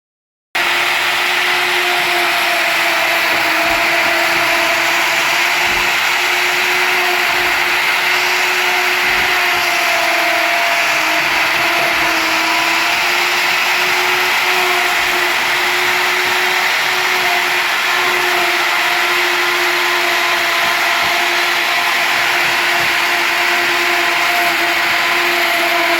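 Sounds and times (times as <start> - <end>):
router spindle cutting wood: 0.6 - 25.9.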